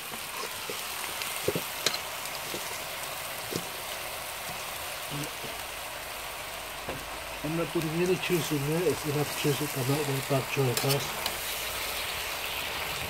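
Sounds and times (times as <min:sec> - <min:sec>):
stir-fry sizzling in a wok: 0:00.0 - 0:13.0.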